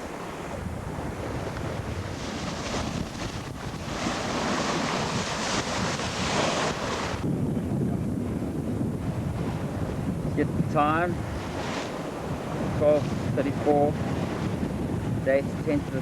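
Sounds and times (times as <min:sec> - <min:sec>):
sea rushing along a hull: 0:00.0 - 0:16.0
wind buffeting the microphone: 0:00.0 - 0:16.0.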